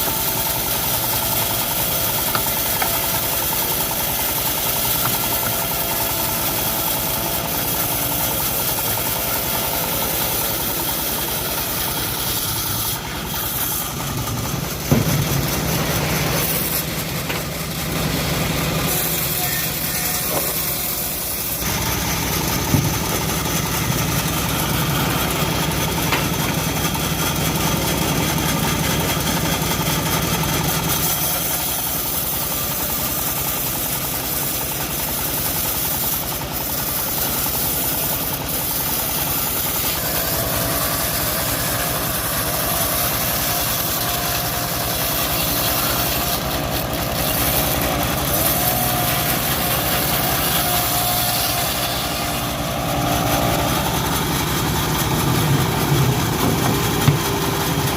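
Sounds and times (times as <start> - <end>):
bandsaw mill engine running: 0.0 - 57.9.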